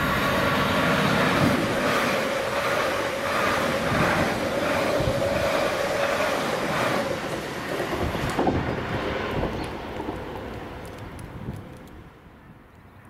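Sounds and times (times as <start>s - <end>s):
train passing at speed: 0.0s - 12.7s.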